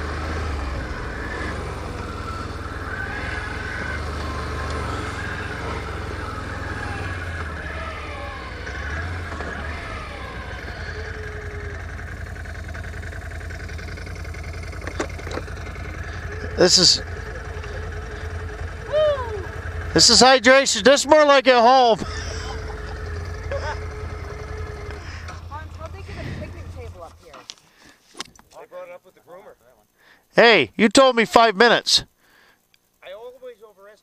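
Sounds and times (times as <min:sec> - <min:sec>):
atv engine running: 0:00.0 - 0:27.6.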